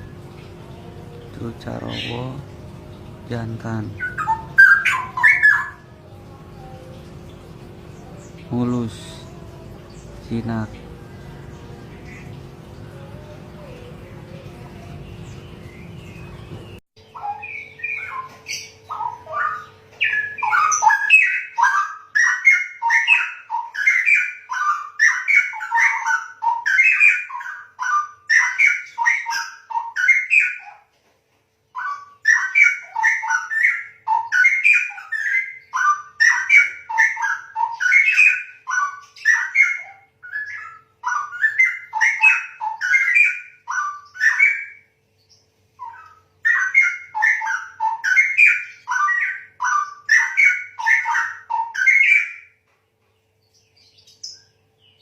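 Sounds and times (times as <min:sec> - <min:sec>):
bird singing rapid warbling: 0:00.0 - 0:30.9, 0:31.7 - 0:55.0.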